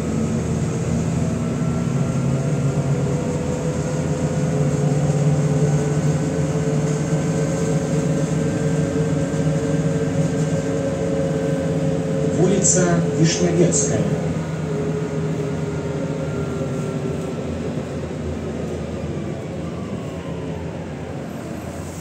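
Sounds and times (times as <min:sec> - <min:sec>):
bus diesel engine running: 0:00.0 - 0:22.0
road and tyre noise: 0:00.0 - 0:22.0.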